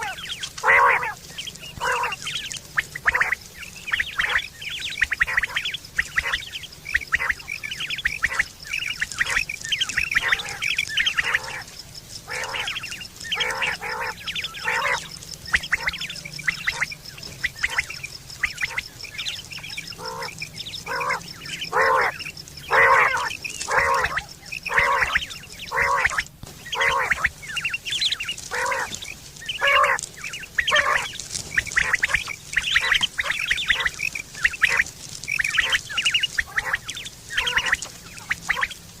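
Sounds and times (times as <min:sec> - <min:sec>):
quails calling: 0:00.0 - 0:39.0.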